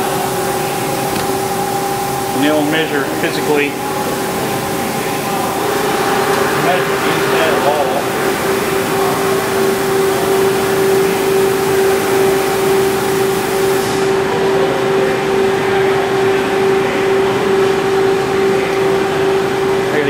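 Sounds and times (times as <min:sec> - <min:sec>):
lathe machine hum: 0:00.0 - 0:20.0.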